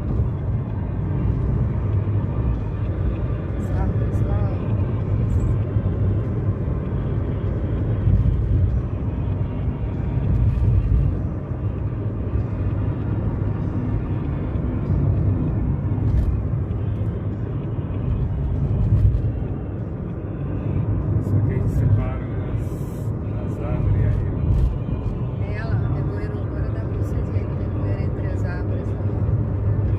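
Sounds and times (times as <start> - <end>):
road and engine noise in car: 0.0 - 29.9.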